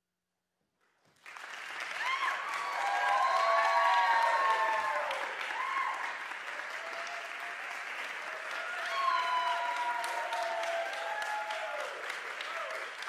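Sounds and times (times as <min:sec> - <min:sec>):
audience applauding: 0:01.1 - 0:13.0.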